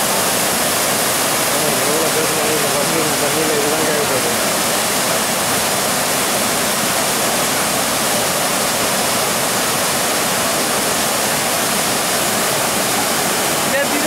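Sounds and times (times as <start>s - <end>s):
rushing churning white water: 0.0s - 14.0s.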